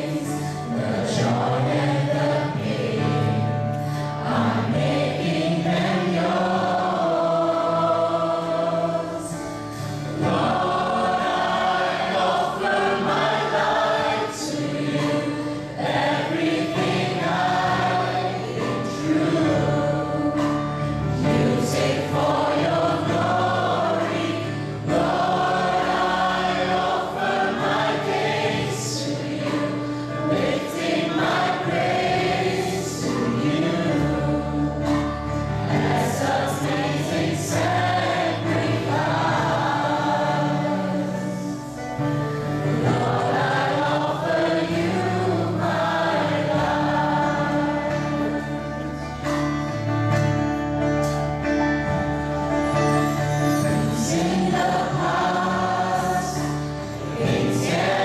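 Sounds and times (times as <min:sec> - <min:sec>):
man and woman singing: 0:00.0 - 0:41.9, 0:42.7 - 0:49.0, 0:53.6 - 0:58.0
worship band playing: 0:00.0 - 0:58.0.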